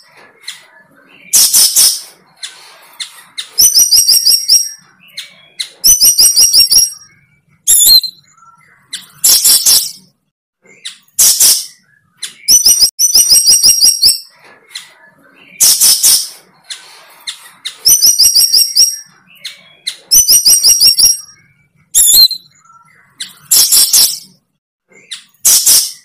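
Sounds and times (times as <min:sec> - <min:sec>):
bird singing trilled notes: 0:03.3 - 0:16.6, 0:17.3 - 0:26.0.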